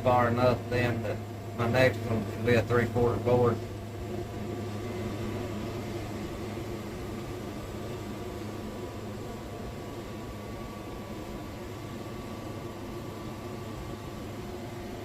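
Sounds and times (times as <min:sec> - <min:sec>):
sawmill engine humming: 0:00.0 - 0:15.0.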